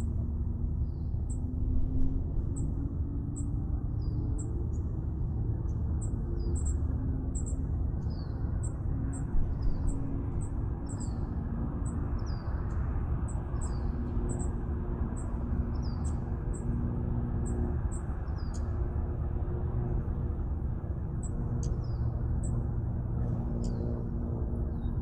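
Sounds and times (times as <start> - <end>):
steady low rumbling: 0.0 - 25.0.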